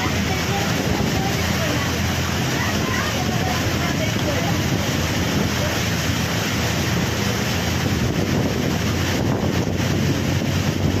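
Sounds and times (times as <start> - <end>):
floodwater churning and splashing: 0.0 - 11.0
wind buffeting the microphone: 0.0 - 11.0.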